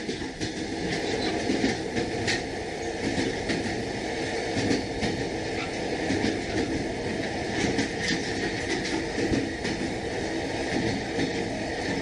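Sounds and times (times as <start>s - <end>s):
train wheels rumbling on rails: 0.0s - 12.0s
wheels clacking over rail joints: 0.0s - 12.0s.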